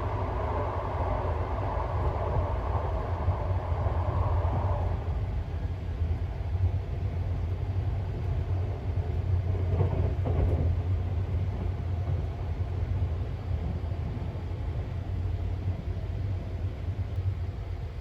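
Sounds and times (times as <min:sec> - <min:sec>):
train rattle: 0:00.0 - 0:17.1
train wheels rumbling on rail: 0:00.0 - 0:18.0.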